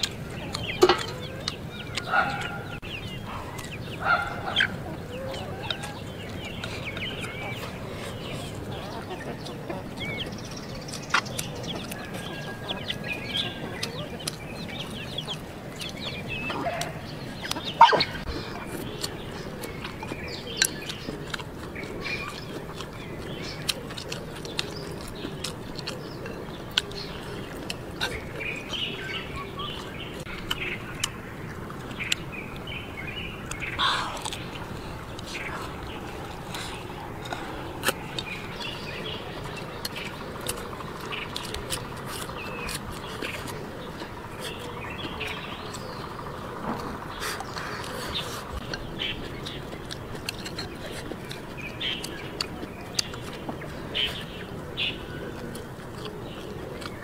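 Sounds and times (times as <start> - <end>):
birds calling: 0.0 - 57.0
chewing: 0.0 - 57.0.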